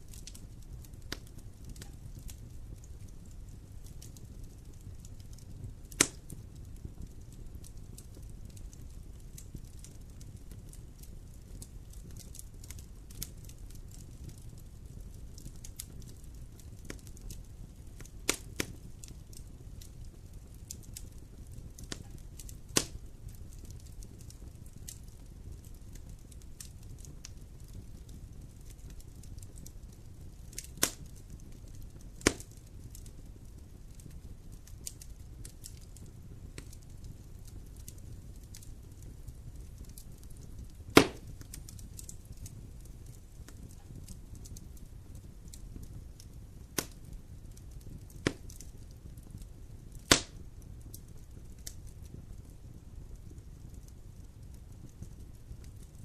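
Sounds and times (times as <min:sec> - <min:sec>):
sharp pops of fire: 0:00.0 - 0:52.5
campfire crackling: 0:00.0 - 0:56.0.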